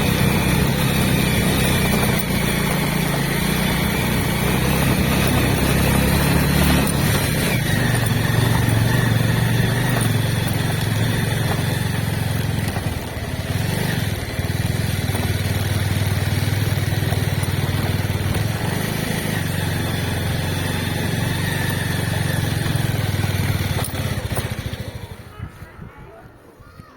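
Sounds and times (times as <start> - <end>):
vehicle engine running: 0.0 - 25.4.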